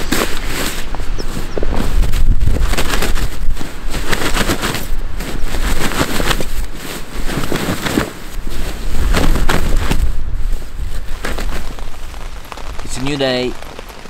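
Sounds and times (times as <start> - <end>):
fabric rustling and crackling: 0.0 - 14.0.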